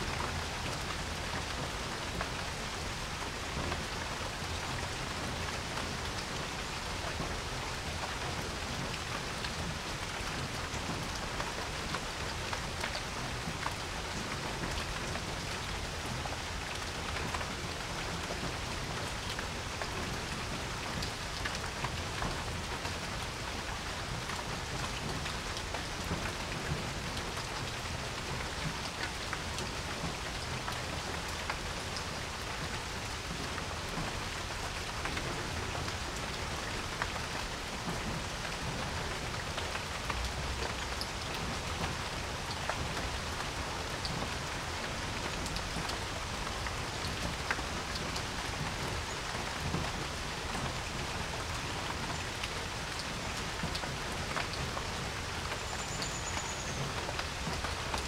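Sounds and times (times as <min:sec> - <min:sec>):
rain falling on a porch: 0:00.0 - 0:58.0.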